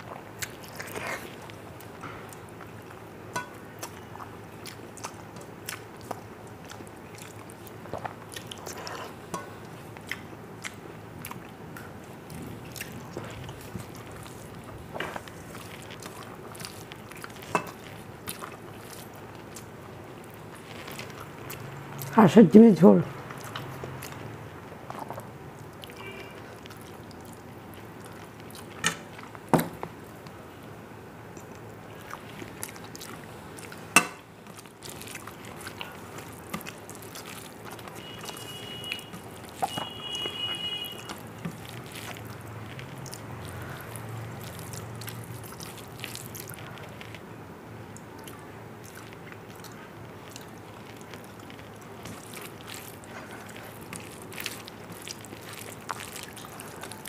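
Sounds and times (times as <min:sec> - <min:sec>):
chewing and mouth sounds: 0:00.0 - 0:22.2, 0:23.1 - 0:57.0.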